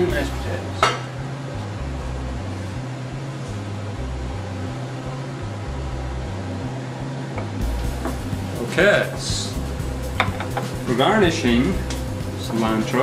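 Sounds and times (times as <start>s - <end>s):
low rumble: 0.0s - 12.5s
fan whirring: 0.0s - 13.0s.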